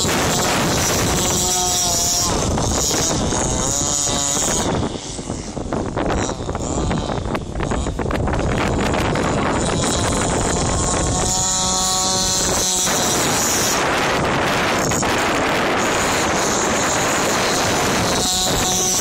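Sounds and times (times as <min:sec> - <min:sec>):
rc boat engine whine: 0:00.0 - 0:19.0
wind buffeting microphone: 0:00.0 - 0:19.0.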